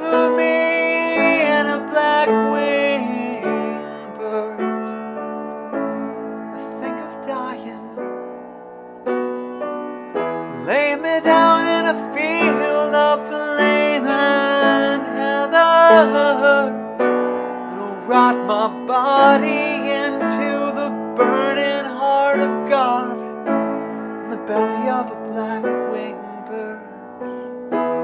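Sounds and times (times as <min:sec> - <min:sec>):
man singing: 0:00.0 - 0:05.2, 0:06.0 - 0:08.3, 0:10.5 - 0:27.2
piano chords: 0:00.0 - 0:28.0.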